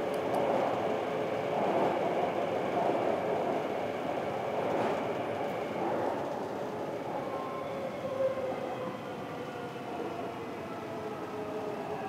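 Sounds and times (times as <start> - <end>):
train running through tunnel: 0.0 - 12.0.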